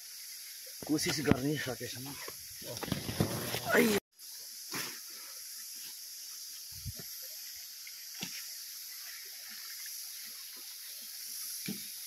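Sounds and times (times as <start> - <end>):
high outdoor ambience hiss: 0.0 - 12.0.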